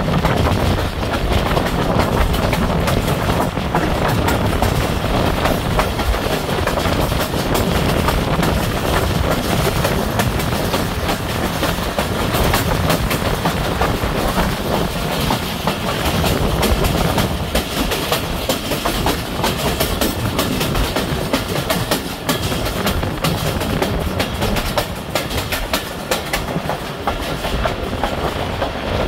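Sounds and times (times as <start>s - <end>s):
clicks over rail joints: 0.0s - 29.0s
train wheels rumbling on rails: 0.0s - 29.0s.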